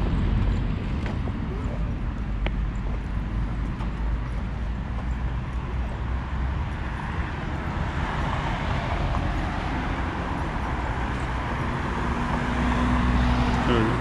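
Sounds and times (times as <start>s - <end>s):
low engine hum: 0.0s - 14.0s
passing vehicles: 0.0s - 14.0s.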